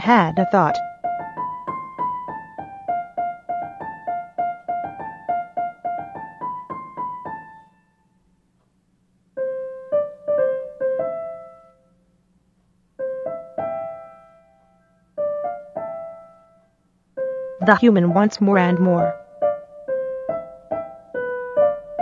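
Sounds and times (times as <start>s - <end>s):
piano notes: 0.0s - 8.3s, 9.3s - 12.2s, 12.9s - 22.0s.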